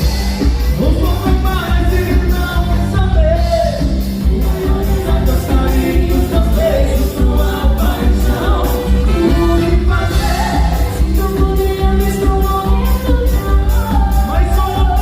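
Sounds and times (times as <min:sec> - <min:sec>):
band playing pop song: 0:00.0 - 0:15.0
person singing: 0:00.0 - 0:15.0.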